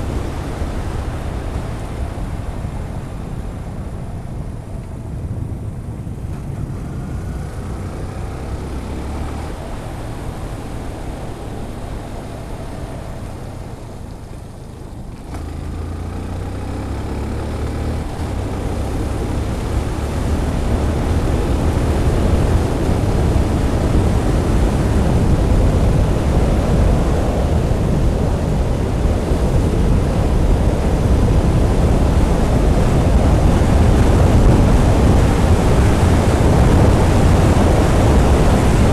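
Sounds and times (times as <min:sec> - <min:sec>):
low engine rumble: 0:00.0 - 0:38.9
wind rushing over microphone: 0:00.0 - 0:38.9.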